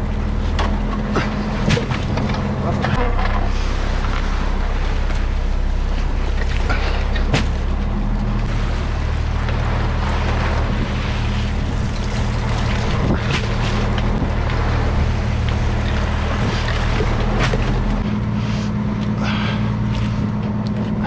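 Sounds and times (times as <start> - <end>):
boat engine humming: 0.0 - 21.0
water wash: 0.0 - 21.0.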